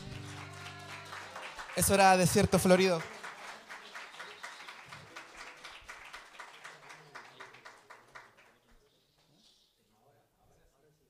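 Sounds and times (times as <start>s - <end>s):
light applause: 0.0s - 9.4s.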